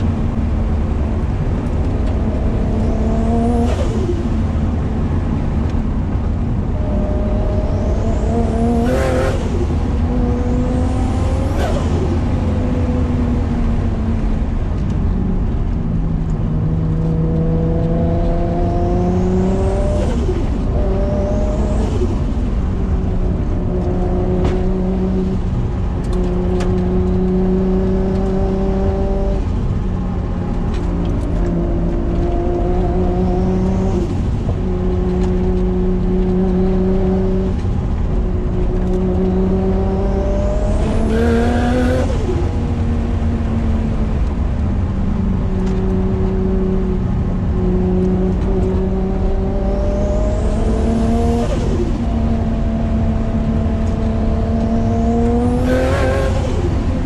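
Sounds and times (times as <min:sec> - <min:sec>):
turbocharged car engine revving: 0:01.2 - 0:05.0, 0:06.7 - 0:14.1, 0:16.3 - 0:57.0.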